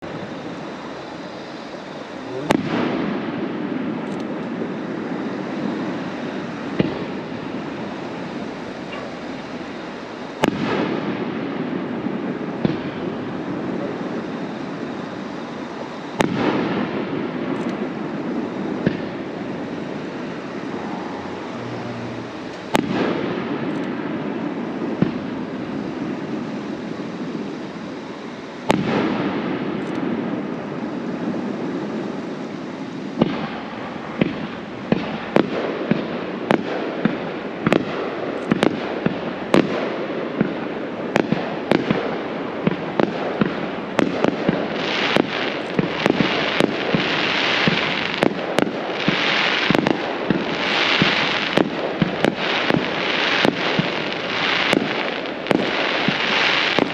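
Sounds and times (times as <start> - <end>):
fireworks bangs: 0.0 - 56.9.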